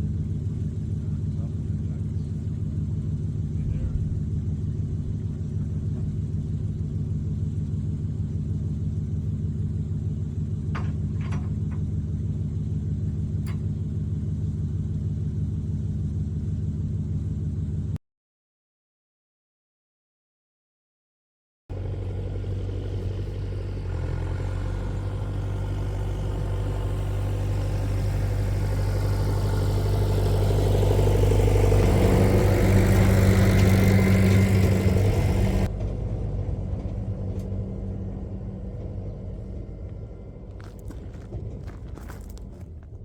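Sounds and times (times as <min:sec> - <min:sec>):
farm machine engine humming: 0:00.0 - 0:18.0, 0:21.7 - 0:43.0.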